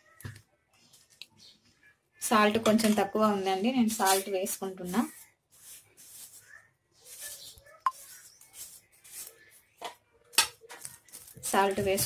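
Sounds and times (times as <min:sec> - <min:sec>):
spoon stirring batter in steel bowl: 0:00.7 - 0:12.0.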